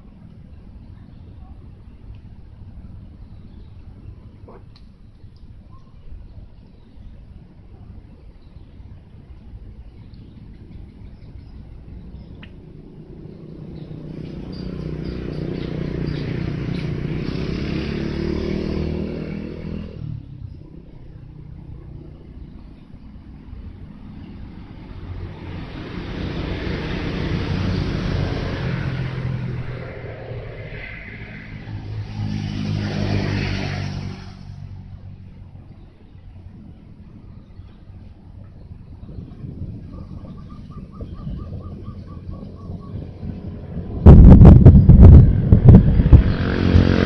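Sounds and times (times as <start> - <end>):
vehicles driving past: 0.0 - 47.0.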